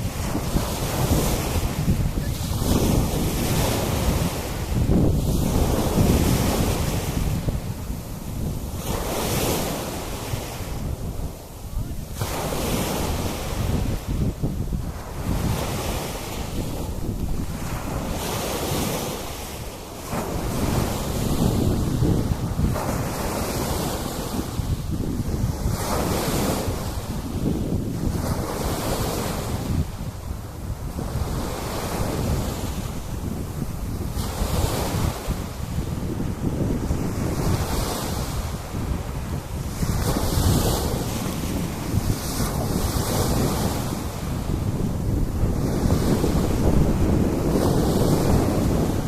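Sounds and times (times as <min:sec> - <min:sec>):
sea waves breaking on beach: 0:00.0 - 0:49.0
wind buffeting microphone: 0:00.0 - 0:49.0.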